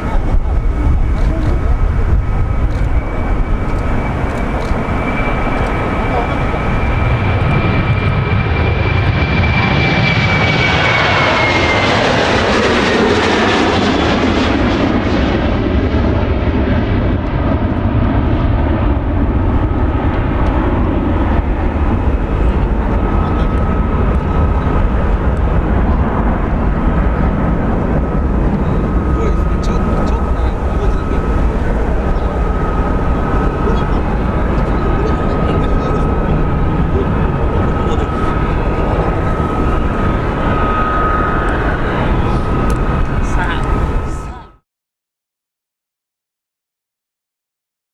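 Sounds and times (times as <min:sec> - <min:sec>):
jet engines passing by: 0:00.0 - 0:44.5
low jet rumble: 0:00.0 - 0:44.6.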